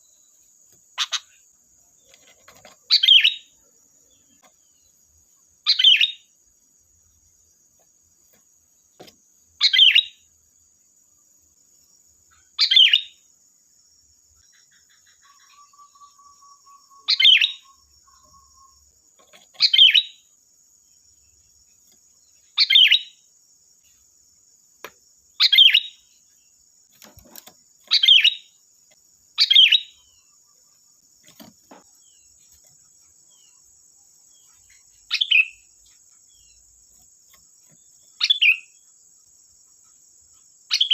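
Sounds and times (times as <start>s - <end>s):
faint insect drone: 0.0s - 40.9s.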